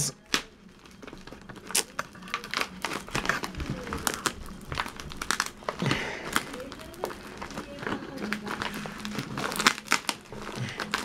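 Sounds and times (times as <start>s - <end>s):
plastic bag crinkling and tearing: 0.0s - 11.0s.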